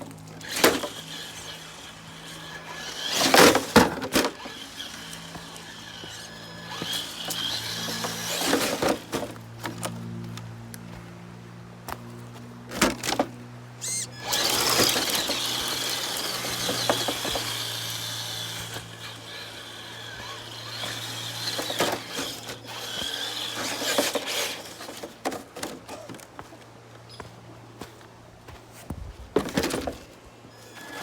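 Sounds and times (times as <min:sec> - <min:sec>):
rc car motor whining: 0:00.0 - 0:10.4, 0:12.7 - 0:26.1, 0:29.6 - 0:31.0.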